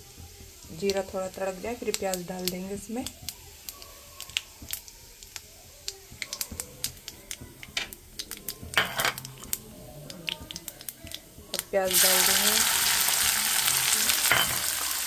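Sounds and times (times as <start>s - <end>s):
seeds crackling in hot oil: 0.0s - 15.0s.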